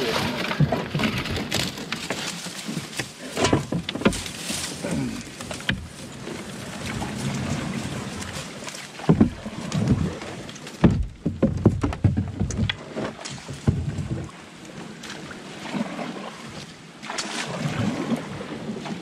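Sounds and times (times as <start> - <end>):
paddle strokes in water: 0.0 - 19.0
reeds scraping along hull: 0.0 - 19.0
sharp knocks and splashes: 0.0 - 19.0.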